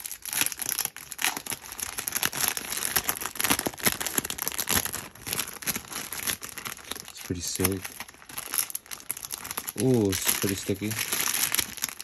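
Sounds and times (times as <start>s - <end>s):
packaging wrapper crinkling and tearing: 0.0s - 12.0s.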